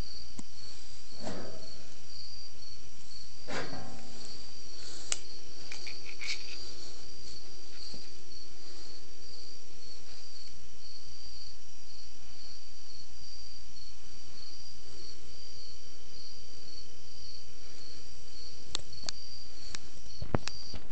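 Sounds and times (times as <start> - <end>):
constant low hum: 0.0 - 20.9
cricket chirping: 0.0 - 20.9.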